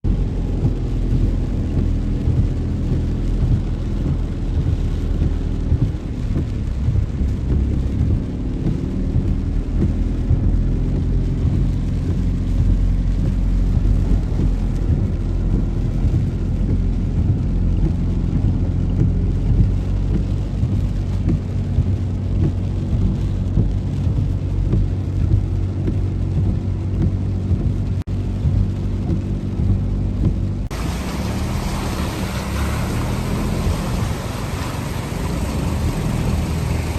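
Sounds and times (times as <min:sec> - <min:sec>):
heavy rain and water hiss: 0:00.0 - 0:36.9
vehicle engines humming: 0:00.0 - 0:36.9.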